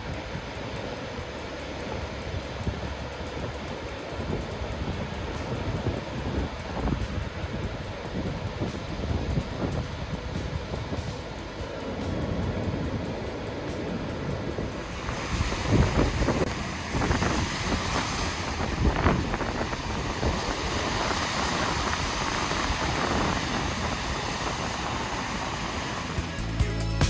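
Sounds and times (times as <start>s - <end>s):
wind buffeting microphone: 0.0s - 26.4s
waves rushing: 0.0s - 26.6s.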